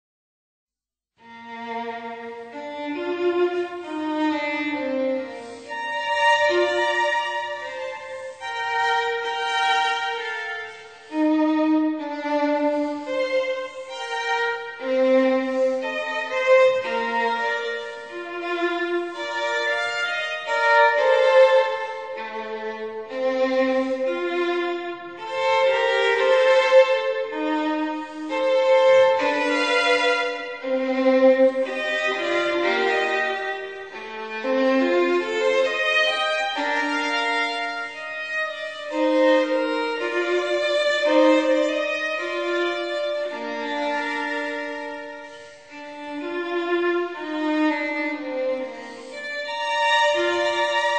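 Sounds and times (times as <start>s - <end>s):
violin melody: 1.2s - 50.9s.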